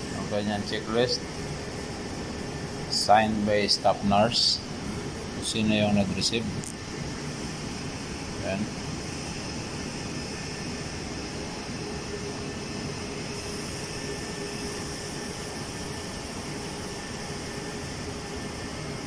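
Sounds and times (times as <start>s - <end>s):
air conditioning hiss: 0.0s - 19.0s
faint hum: 0.0s - 19.0s.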